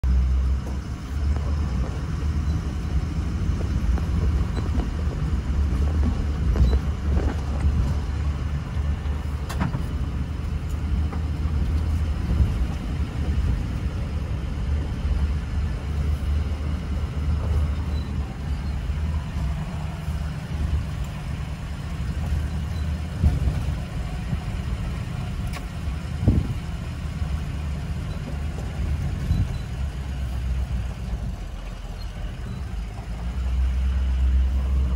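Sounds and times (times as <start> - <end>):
engine rumble: 0.0 - 34.9
tyres on gravel and stones: 0.1 - 34.9.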